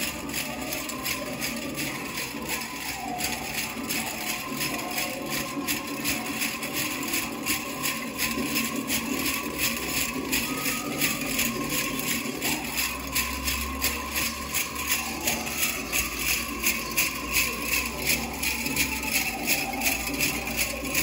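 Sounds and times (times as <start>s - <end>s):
faint music: 0.0s - 21.0s
metal cones clinking: 0.0s - 21.0s.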